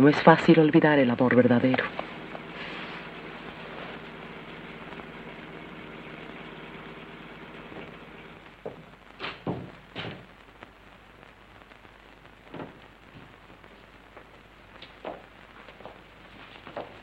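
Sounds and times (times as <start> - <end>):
film soundtrack hiss: 0.0 - 17.0.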